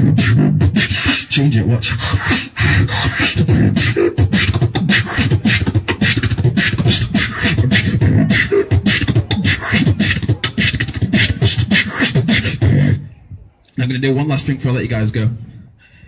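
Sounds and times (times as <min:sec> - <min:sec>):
beatboxing through speaker: 0:00.0 - 0:13.8.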